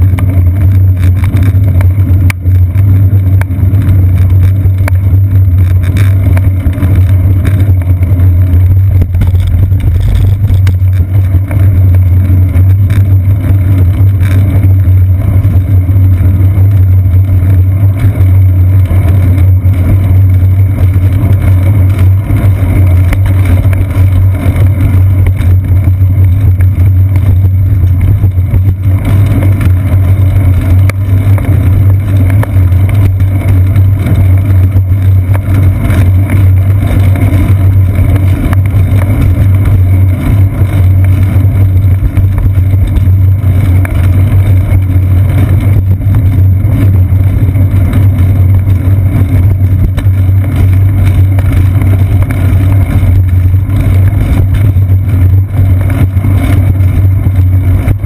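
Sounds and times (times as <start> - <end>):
wind and road vibration rumble: 0.0 - 58.0.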